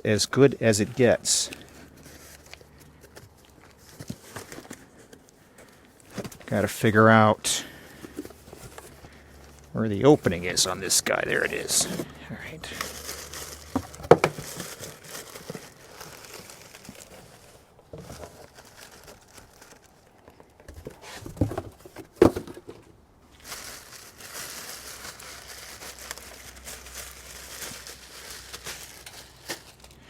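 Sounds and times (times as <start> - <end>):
packaging crinkling and tearing: 1.0 - 20.6, 23.3 - 30.0.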